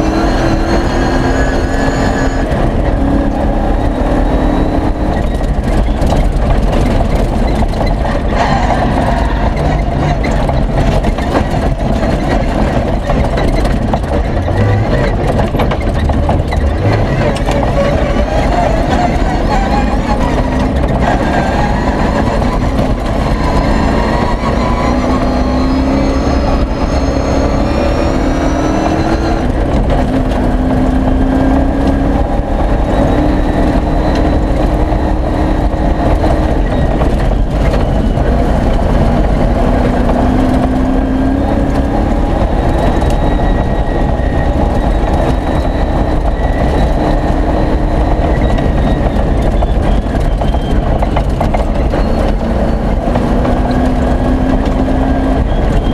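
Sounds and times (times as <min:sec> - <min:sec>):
race car engine accelerating: 0:00.0 - 0:55.9
tyres rumbling on gravel: 0:00.0 - 0:55.9.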